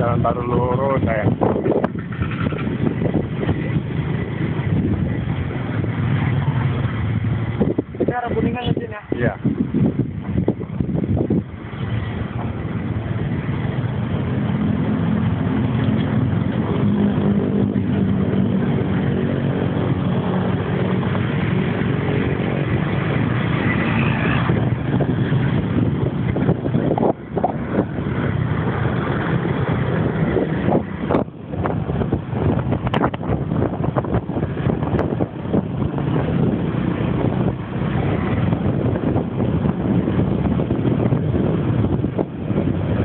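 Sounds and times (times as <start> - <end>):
road and wind noise: 0.0 - 43.0
vehicle engine running: 0.0 - 43.0.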